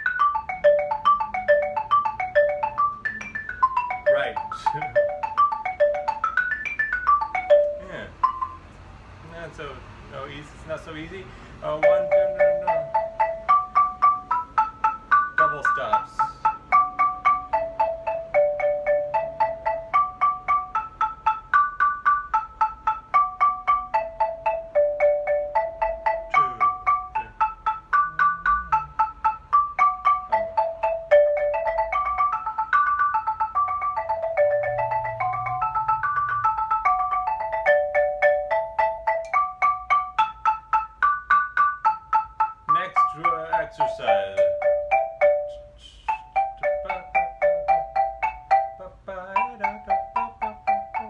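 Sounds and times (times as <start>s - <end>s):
xylophone playing scales: 0.0s - 51.0s.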